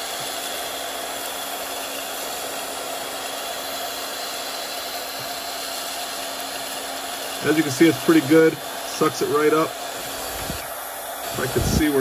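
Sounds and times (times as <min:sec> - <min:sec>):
handheld vacuum cleaner running: 0:00.0 - 0:12.0.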